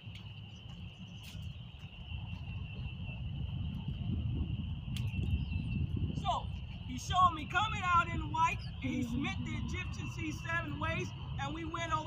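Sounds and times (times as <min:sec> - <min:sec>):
high-pitched insect trill: 0:00.0 - 0:12.0
low rumble: 0:02.2 - 0:12.0.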